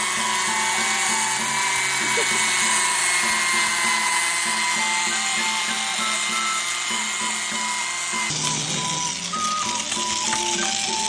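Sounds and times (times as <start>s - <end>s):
mini grinder whining: 0.0s - 11.0s
simple background music melody: 0.0s - 11.0s.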